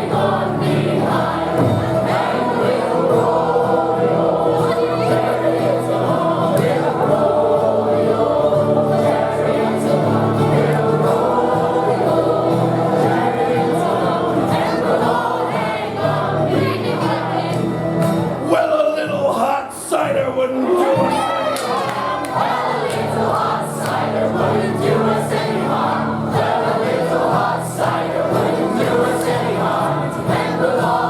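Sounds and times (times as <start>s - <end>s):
group singing in chorus: 0.0s - 19.5s, 20.6s - 31.0s.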